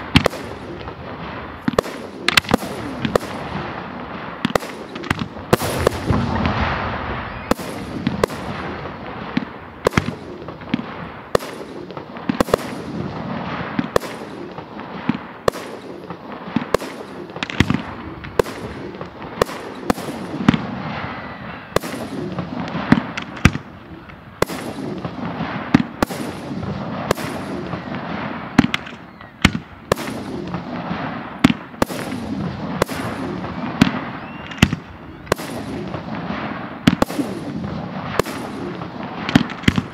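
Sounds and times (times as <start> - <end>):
fireworks bursting: 0.0 - 39.9
fireworks rumble: 0.0 - 39.9.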